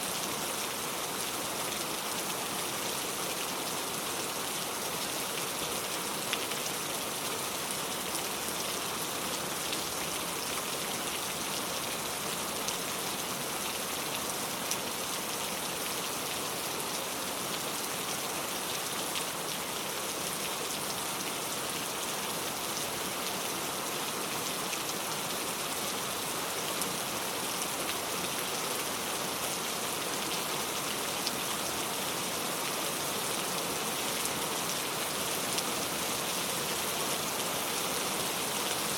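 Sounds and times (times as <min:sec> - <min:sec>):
steady rain pattering: 0:00.1 - 0:38.9.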